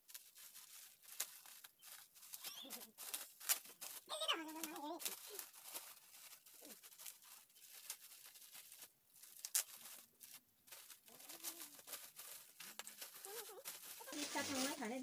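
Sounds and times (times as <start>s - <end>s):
wrapping paper crinkling and tearing: 0.0s - 15.0s.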